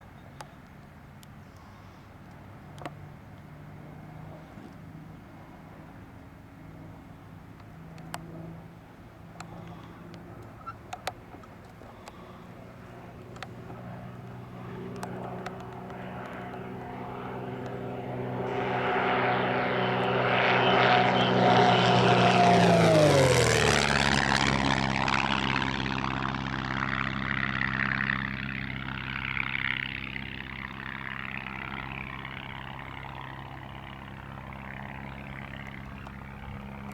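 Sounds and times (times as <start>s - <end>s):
propeller plane flyby: 0.0s - 36.9s.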